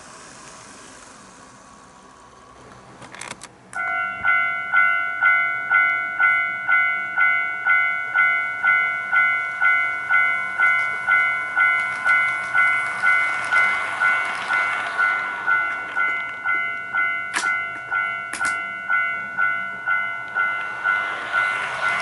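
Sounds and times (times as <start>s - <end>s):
level crossing alarm bell: 3.8s - 22.0s.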